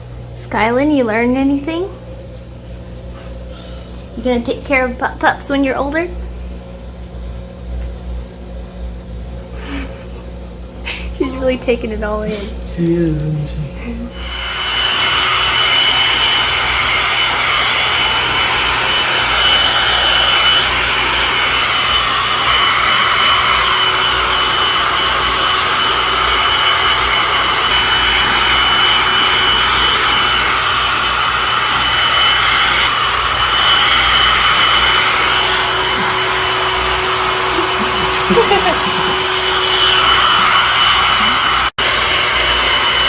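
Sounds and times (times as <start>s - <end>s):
blower motor running: 0.0s - 43.0s.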